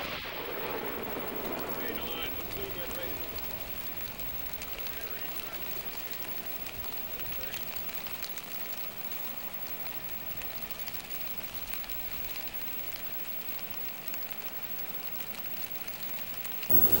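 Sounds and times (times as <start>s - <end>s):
water drops pattering: 1.8s - 17.0s.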